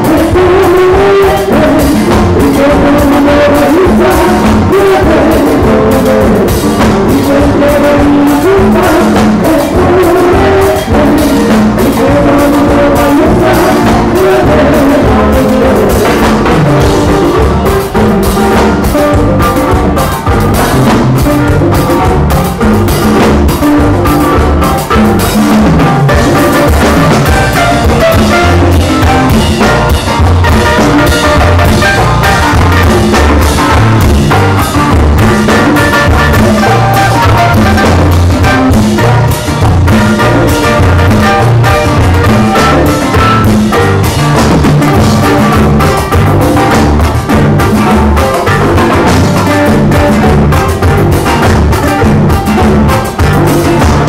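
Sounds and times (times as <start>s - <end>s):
drum kit and timbales beat: 0.0s - 54.0s
live dance band playing: 0.0s - 54.0s.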